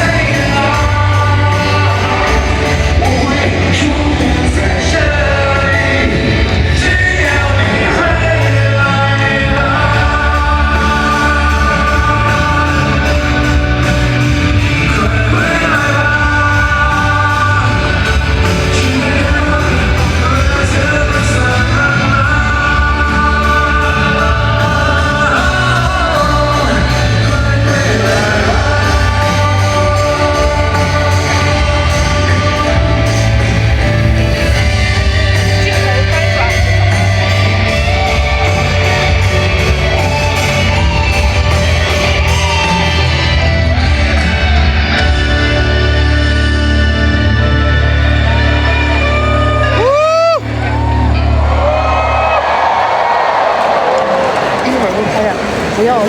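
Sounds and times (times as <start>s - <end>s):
live rock band with singing: 0.0s - 56.0s.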